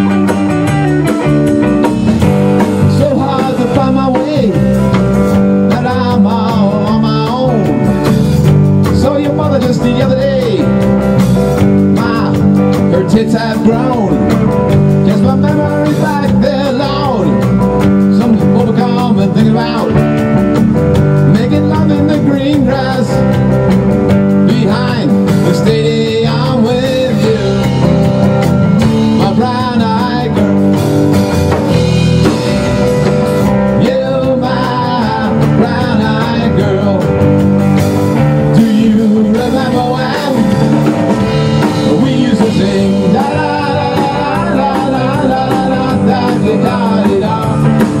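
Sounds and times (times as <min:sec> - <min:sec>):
drum kit: 0:00.0 - 0:48.0
electric guitars: 0:00.0 - 0:48.0.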